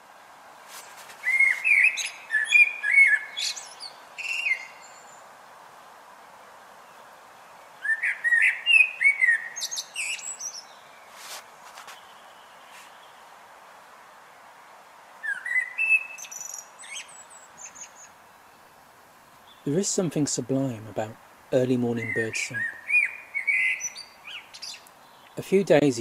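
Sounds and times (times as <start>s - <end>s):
steady background hiss: 0.0s - 26.0s
songbird singing: 0.7s - 5.6s, 6.3s - 13.6s, 14.2s - 26.0s.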